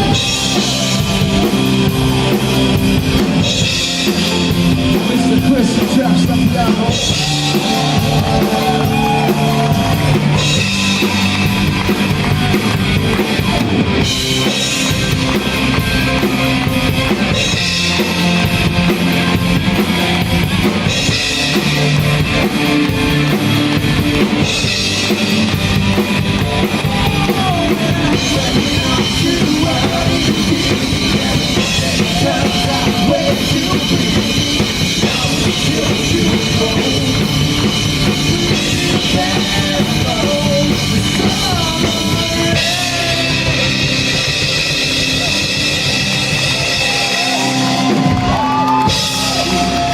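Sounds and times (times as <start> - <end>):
bass guitar: 0.0 - 49.9
drum kit with cymbals: 0.0 - 49.9
electric guitar: 0.0 - 49.9.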